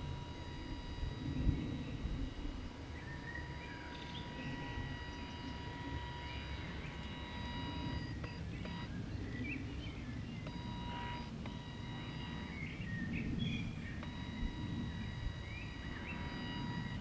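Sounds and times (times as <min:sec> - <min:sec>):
bird chirps: 0:00.0 - 0:17.0
high whine: 0:00.0 - 0:17.0.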